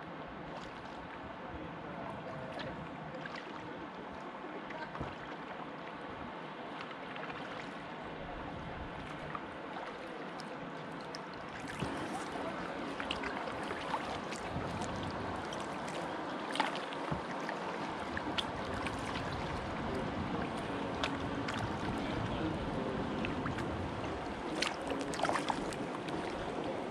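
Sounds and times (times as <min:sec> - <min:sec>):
paddle splashes: 0:00.0 - 0:26.9
water rushing along hull: 0:00.0 - 0:26.9.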